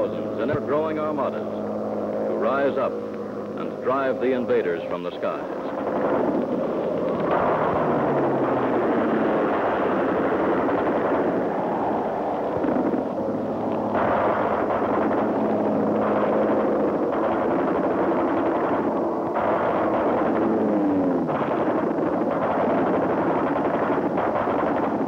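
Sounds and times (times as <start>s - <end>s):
propeller planes droning: 0.0s - 25.0s.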